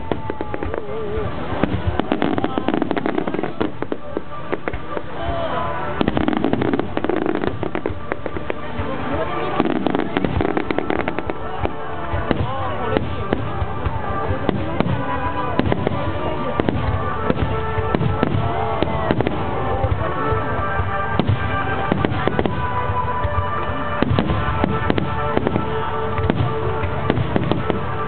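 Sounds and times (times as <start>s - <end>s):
background music: 0.0s - 28.0s
fireworks bangs and crackling: 0.0s - 28.0s
whistling fireworks: 0.0s - 28.0s.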